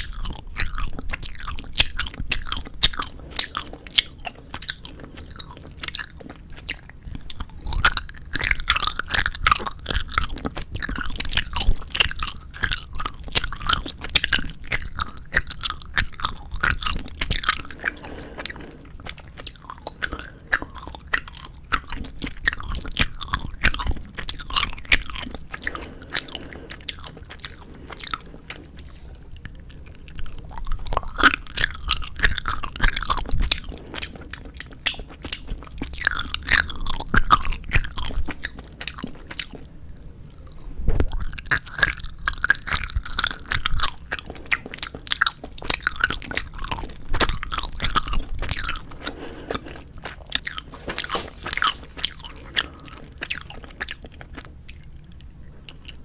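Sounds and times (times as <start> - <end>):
wet chewing mouth sounds: 0.0 - 56.0.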